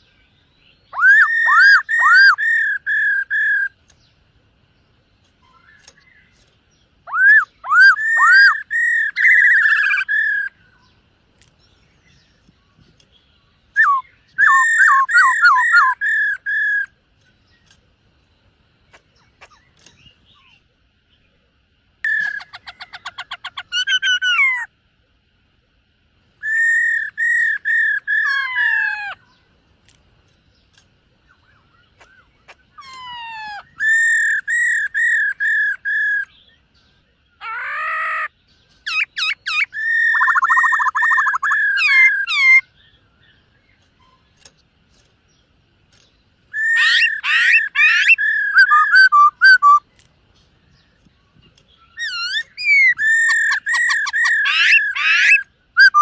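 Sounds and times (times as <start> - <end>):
bird singing whistled notes: 0.0 - 4.2, 5.4 - 11.0, 11.6 - 18.4, 22.0 - 24.7, 26.4 - 29.5, 30.5 - 44.3, 46.0 - 50.0, 50.6 - 56.0.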